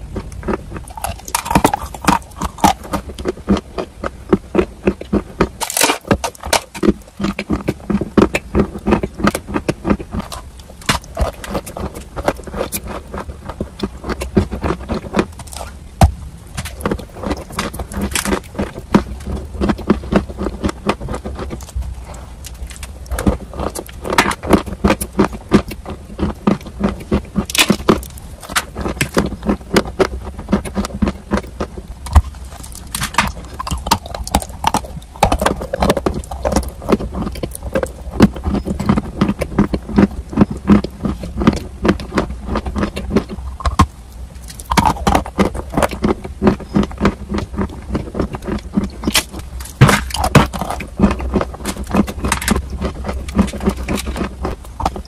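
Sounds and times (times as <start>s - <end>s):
crunching and chewing clay: 0.0s - 55.0s
steady low hum: 0.0s - 55.0s.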